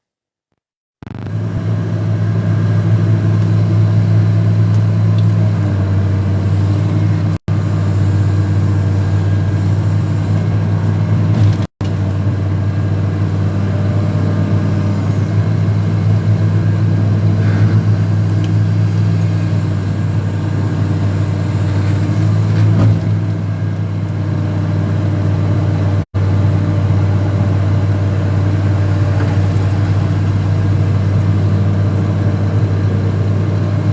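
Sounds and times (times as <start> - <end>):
excavator engine running: 1.0 - 33.9.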